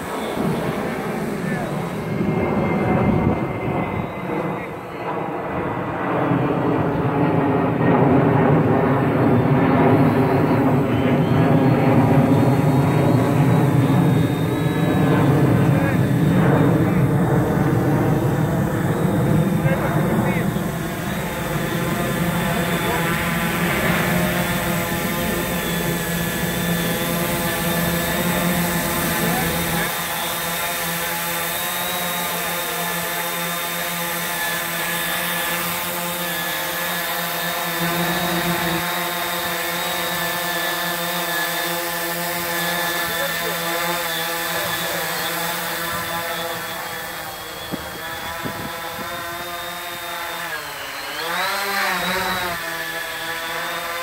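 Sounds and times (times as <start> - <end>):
quadcopter whine: 0.0 - 54.0.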